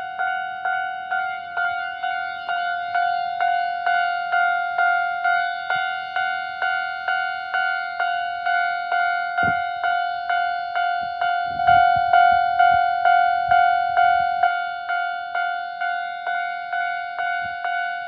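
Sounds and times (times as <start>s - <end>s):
level crossing alarm ringing: 0.0s - 18.0s.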